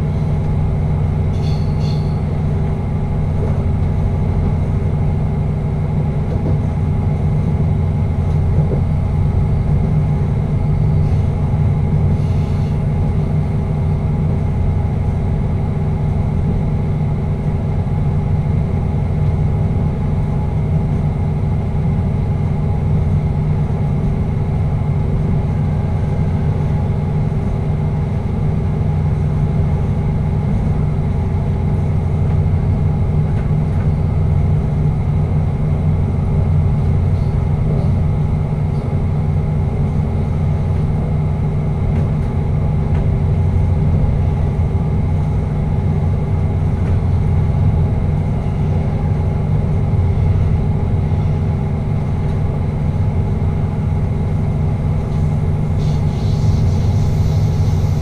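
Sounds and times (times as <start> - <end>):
train cab running drone: 0.0 - 58.0.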